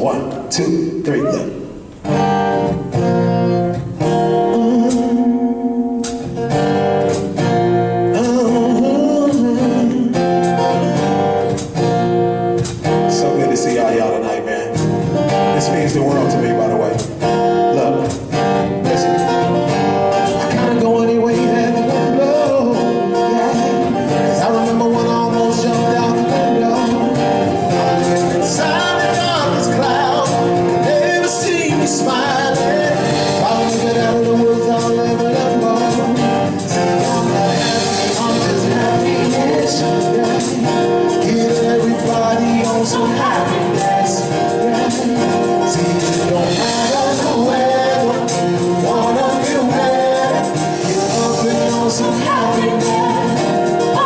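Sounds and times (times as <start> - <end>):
guitar: 0.0 - 54.0
man singing: 4.0 - 6.3, 8.0 - 11.0, 13.0 - 54.0.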